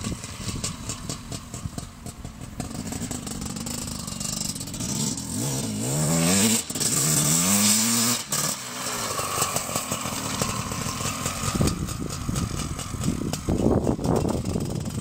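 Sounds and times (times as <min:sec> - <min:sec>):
motocross engine accelerating: 0:00.0 - 0:15.0.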